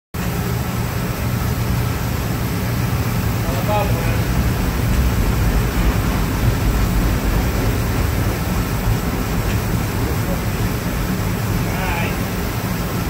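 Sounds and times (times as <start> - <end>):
furnace burners rushing: 0.2 - 13.0.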